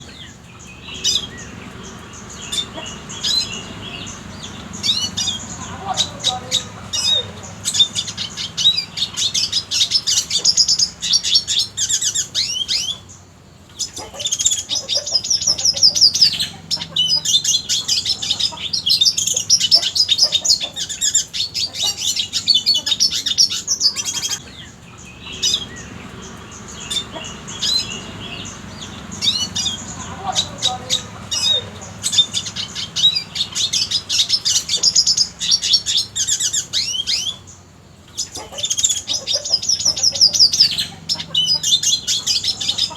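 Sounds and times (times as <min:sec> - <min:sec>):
bird twittering and trilling: 0:00.0 - 0:42.9.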